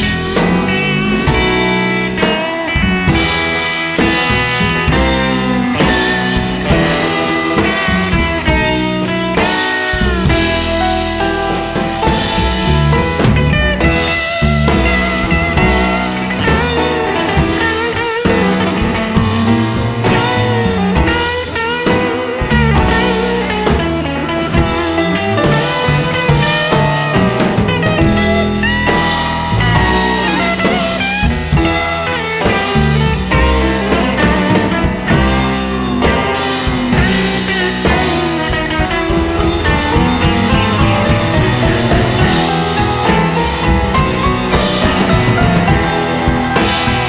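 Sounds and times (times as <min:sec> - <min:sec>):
drum kit: 0:00.0 - 0:47.0
rock music with electric guitar: 0:00.0 - 0:47.0.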